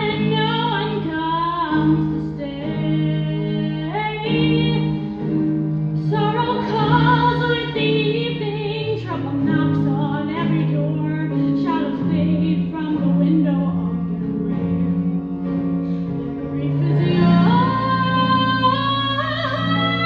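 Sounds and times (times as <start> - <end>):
woman singing with vibrato: 0.0 - 5.0, 6.0 - 14.1, 16.4 - 20.0
sustained accompaniment chords: 0.0 - 20.0.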